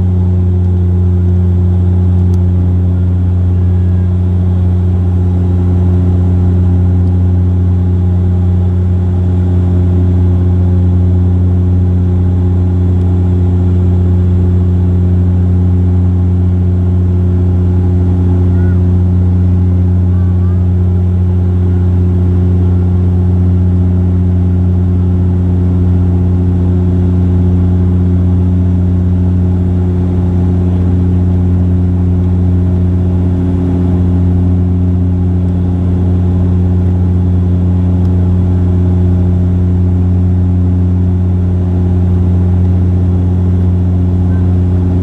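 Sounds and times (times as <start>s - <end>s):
turboprop engines droning in cabin: 0.0s - 45.0s.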